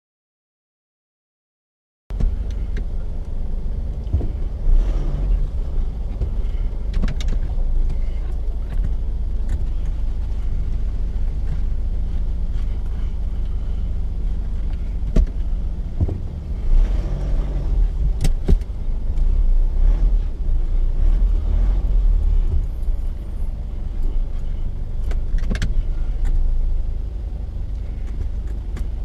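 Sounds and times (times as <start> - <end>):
engine and tyre rumble: 2.1 - 29.0.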